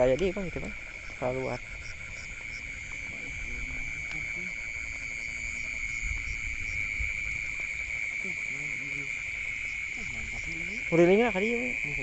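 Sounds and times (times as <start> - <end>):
crickets trilling: 0.0 - 12.0
insect chirp pulsing: 0.0 - 12.0.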